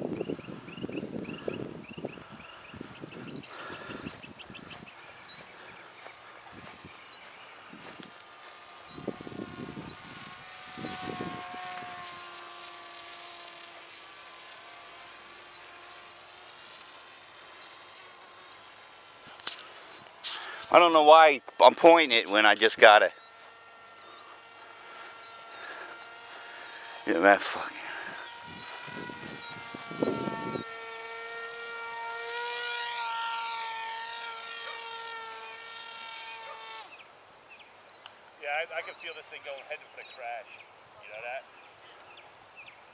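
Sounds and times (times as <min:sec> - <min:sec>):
model plane motor droning: 0:00.0 - 0:42.9
steady outdoor hiss: 0:00.0 - 0:42.9.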